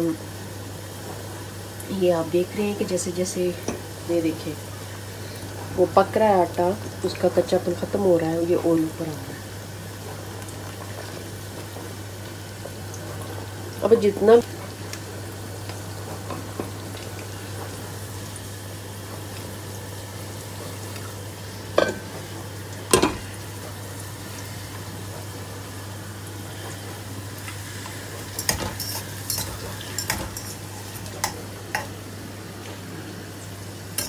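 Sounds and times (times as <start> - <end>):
curry simmering in a pot: 0.2 - 34.0.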